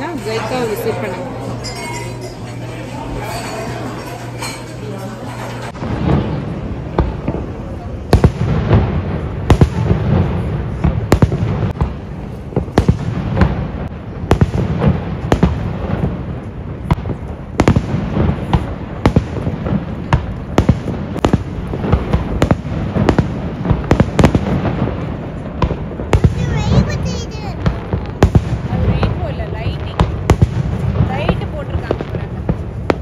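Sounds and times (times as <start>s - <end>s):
low continuous rumble: 0.0s - 33.0s
fireworks bangs and pops: 5.6s - 33.0s.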